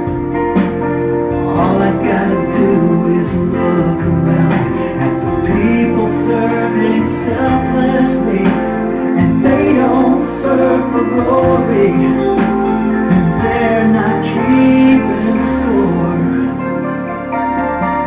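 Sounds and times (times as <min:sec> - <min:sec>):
song with solo singer: 0:00.0 - 0:18.0.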